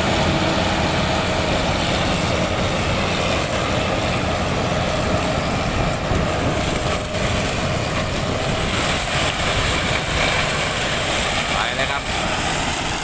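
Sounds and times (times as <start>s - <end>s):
heavy diesel machine running: 0.0s - 13.0s.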